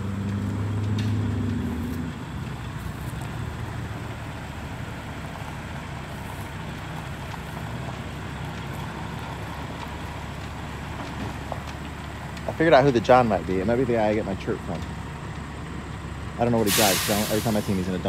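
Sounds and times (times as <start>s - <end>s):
diesel engine low rumble: 0.0s - 18.0s.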